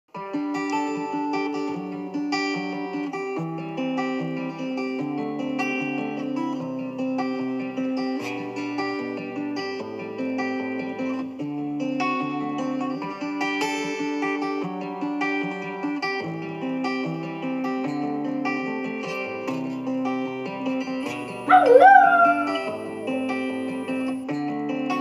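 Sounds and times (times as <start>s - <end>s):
plucked guitar music: 0.1s - 25.0s.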